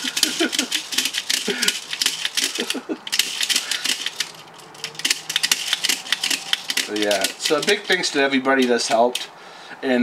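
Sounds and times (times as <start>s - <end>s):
small parts clicking and rattling: 0.0s - 9.3s.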